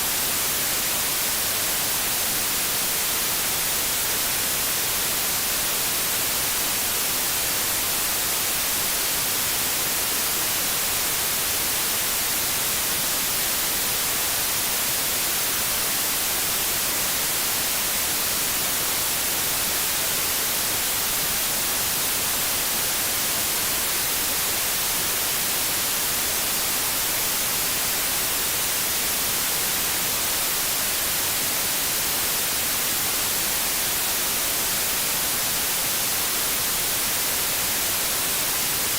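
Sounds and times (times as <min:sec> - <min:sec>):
tv static hiss: 0:00.0 - 0:38.9.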